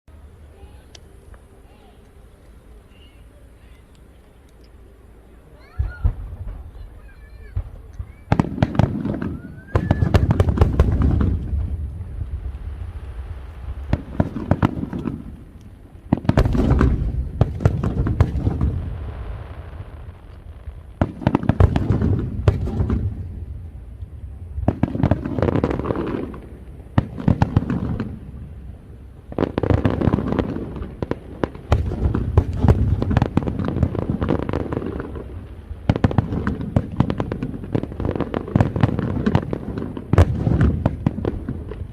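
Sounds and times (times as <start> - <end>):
firework shells bursting with crackling: 5.6 - 41.9.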